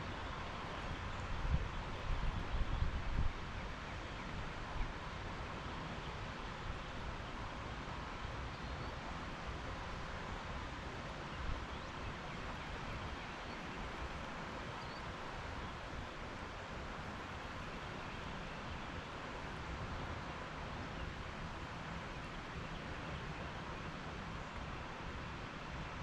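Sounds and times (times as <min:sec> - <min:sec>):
rushing creek: 0:00.0 - 0:26.0.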